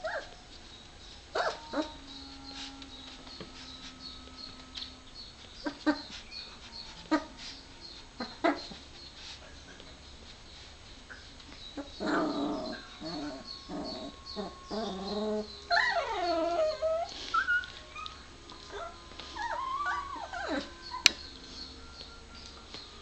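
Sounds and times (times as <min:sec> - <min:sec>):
puppies whimpering and crying: 0:00.0 - 0:23.0.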